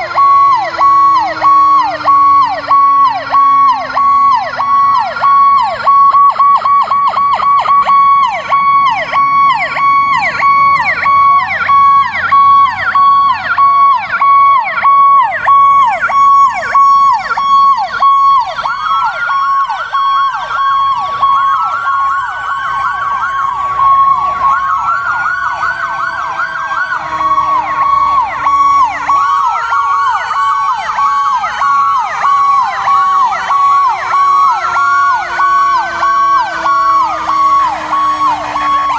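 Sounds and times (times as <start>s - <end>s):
electronic sirens yelping: 0.0s - 38.9s
mechanical siren wail: 0.0s - 38.9s.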